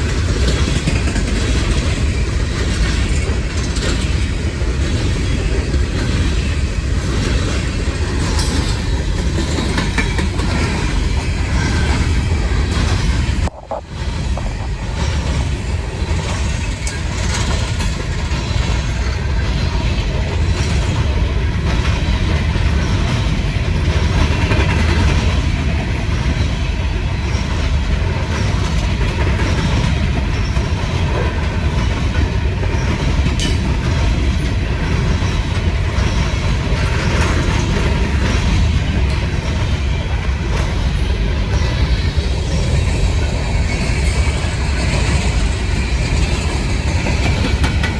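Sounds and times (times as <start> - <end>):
steel wheels clicking over rail joints: 0.0 - 47.9.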